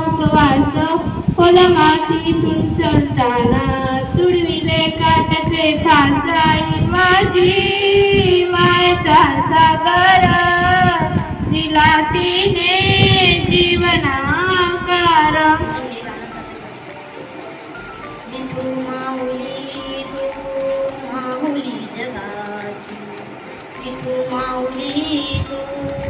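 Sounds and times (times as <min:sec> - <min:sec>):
girl singing into a microphone: 0:00.0 - 0:16.4, 0:18.3 - 0:23.2, 0:23.8 - 0:26.0.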